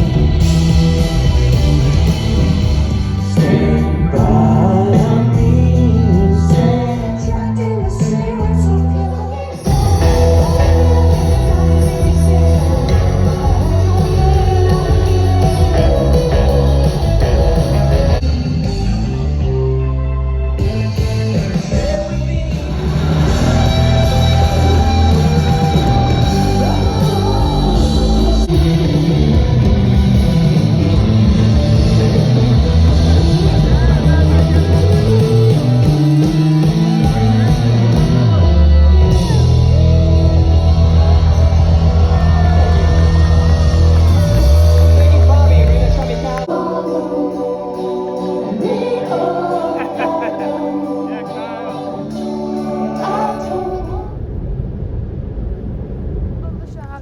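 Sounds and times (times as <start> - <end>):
rock music with guitar: 0.0 - 53.6.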